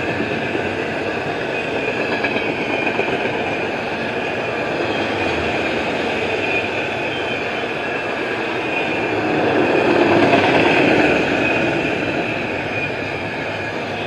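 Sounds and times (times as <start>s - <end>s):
freight train wheels on rail: 0.0s - 14.0s.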